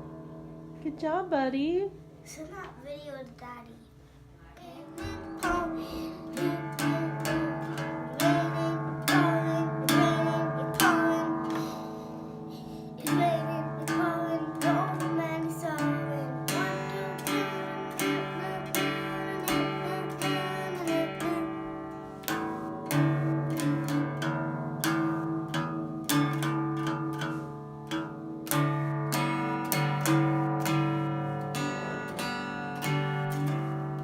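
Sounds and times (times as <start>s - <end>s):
plucked guitar-like strings: 0.0s - 1.0s, 4.7s - 34.0s.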